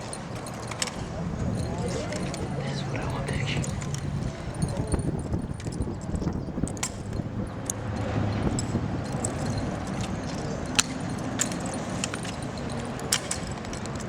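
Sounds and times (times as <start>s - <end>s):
low background noise: 0.0s - 14.0s
rifles slapping and clacking: 0.0s - 14.0s.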